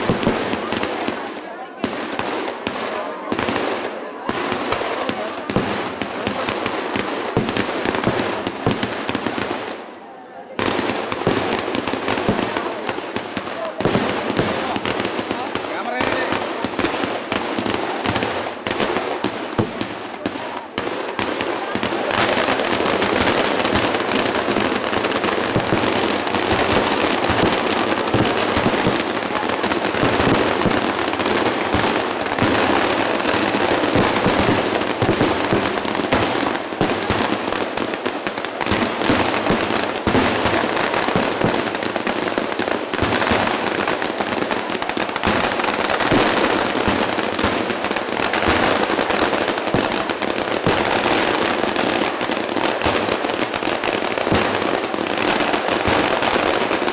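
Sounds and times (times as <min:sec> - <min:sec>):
firecrackers banging and crackling: 0:00.0 - 0:56.9.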